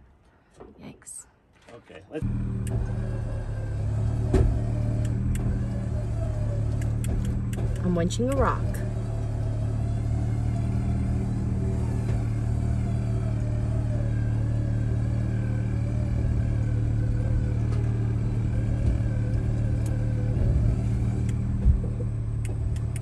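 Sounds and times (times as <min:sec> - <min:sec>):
electric winch motor whining: 0:02.2 - 0:21.6
engine running: 0:02.2 - 0:23.0.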